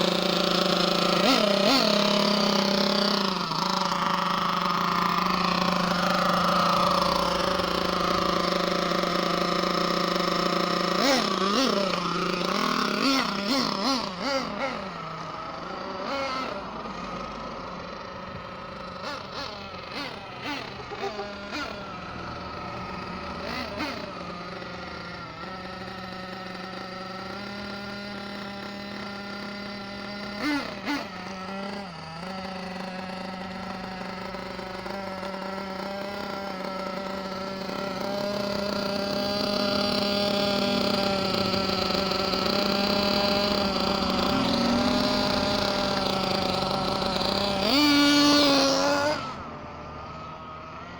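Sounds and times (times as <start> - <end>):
small two-stroke nitro engine revving: 0.0 - 50.9.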